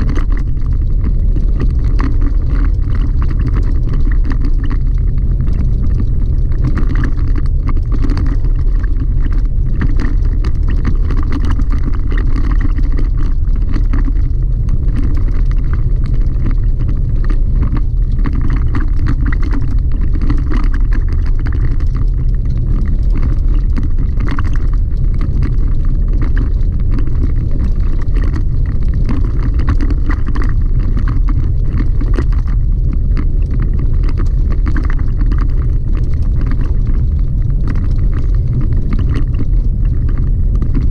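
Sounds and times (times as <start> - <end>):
gravel clicking under tyres: 0.0 - 40.9
low rumble of tyres and engine: 0.0 - 40.9.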